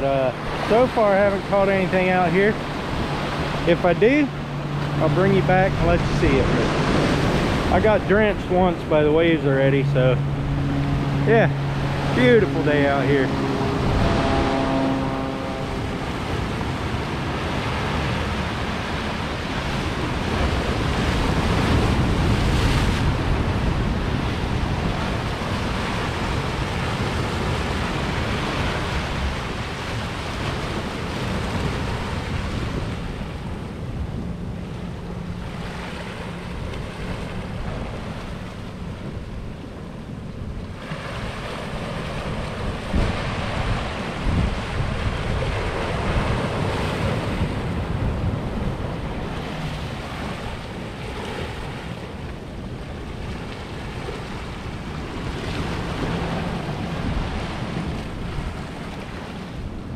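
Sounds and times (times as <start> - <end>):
ocean surf washing on rocks: 0.0 - 59.9
wind on microphone: 0.0 - 59.9.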